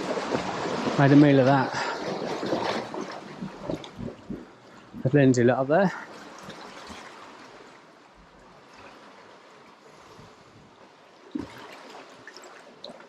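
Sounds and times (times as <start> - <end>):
surf washing around rocks: 0.0 - 13.0.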